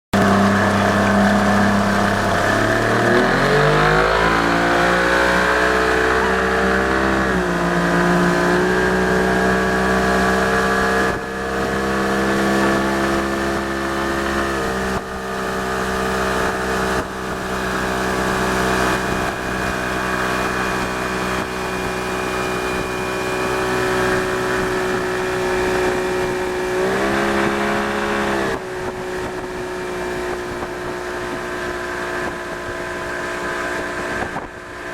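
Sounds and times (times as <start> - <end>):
outboard motor running: 0.1 - 34.9.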